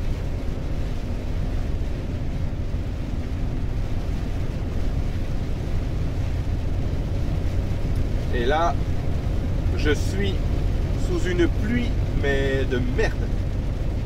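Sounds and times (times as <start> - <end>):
road noise: 0.0 - 14.0
truck engine drone: 0.0 - 14.0.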